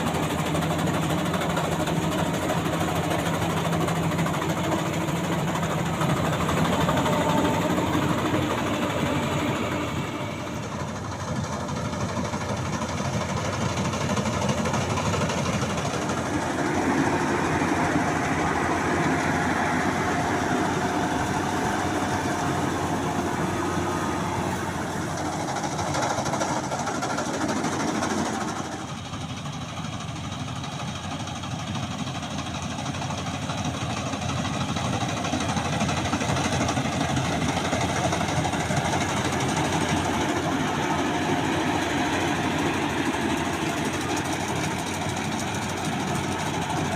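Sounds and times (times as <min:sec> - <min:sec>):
combine harvester engine running: 0:00.0 - 0:46.9.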